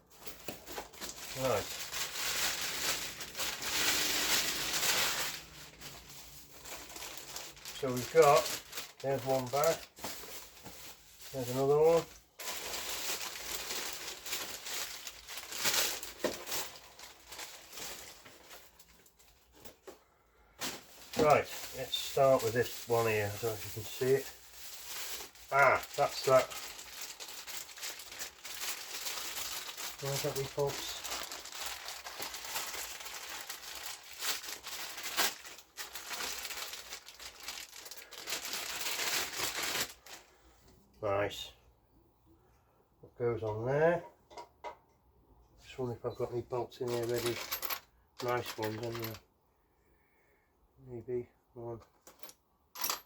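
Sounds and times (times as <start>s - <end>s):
plastic bags crinkling: 0.0s - 40.4s, 46.9s - 49.2s.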